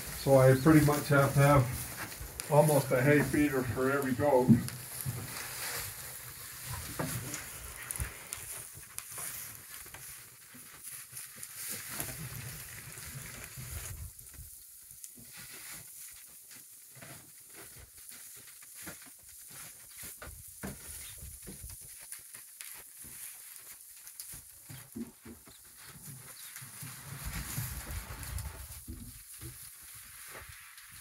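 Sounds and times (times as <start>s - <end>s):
goats chewing hay: 0.0s - 31.0s
hay rustling and crackling: 0.0s - 31.0s.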